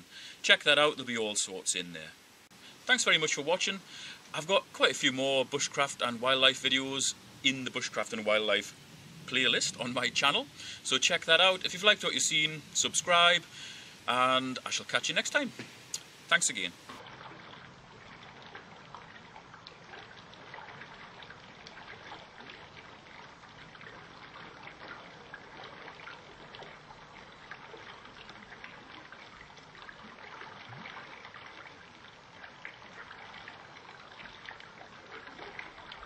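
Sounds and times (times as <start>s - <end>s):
trickling water: 0.0s - 36.0s.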